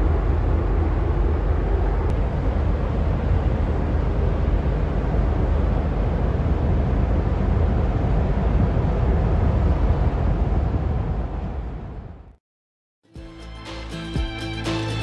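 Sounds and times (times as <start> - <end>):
ship engine drone: 0.0 - 12.3.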